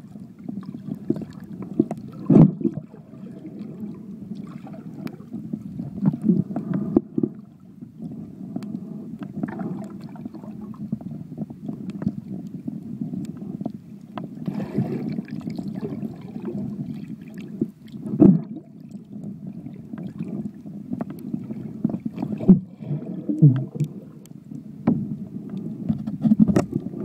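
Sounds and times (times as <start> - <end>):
muffled underwater rush: 0.0 - 10.9, 11.8 - 27.0.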